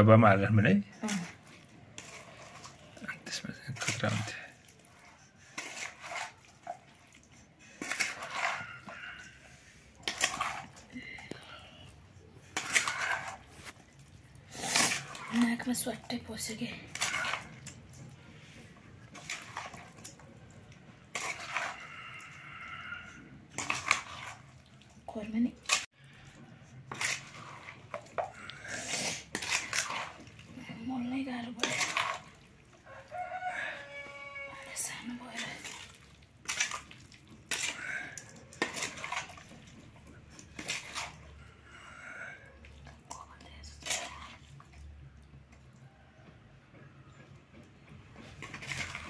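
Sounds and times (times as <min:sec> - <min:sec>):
spoon scraping wet pickle: 0:01.0 - 0:41.9, 0:48.2 - 0:49.0.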